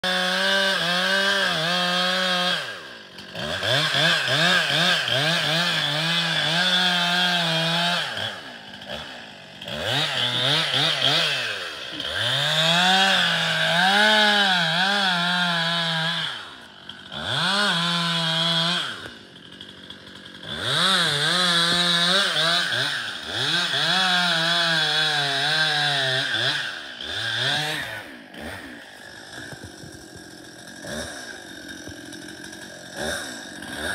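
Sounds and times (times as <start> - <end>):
chainsaw cutting and revving: 0.0 - 33.9.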